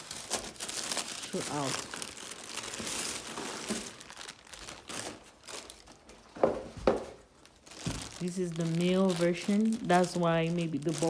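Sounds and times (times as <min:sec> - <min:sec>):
box packaging rustling: 0:00.0 - 0:11.0.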